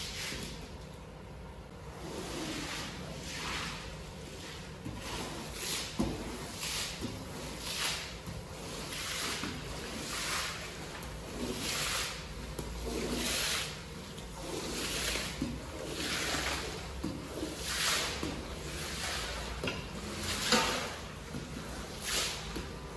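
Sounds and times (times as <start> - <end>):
squeegee swishing water from carpet: 0.0 - 0.7, 1.8 - 22.9.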